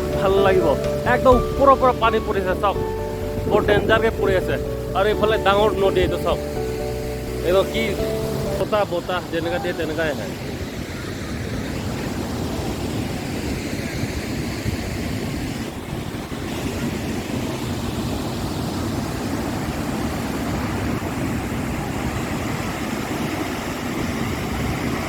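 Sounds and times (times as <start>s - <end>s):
waterfall crashing: 0.0s - 25.0s
wind buffeting microphone: 0.0s - 25.0s.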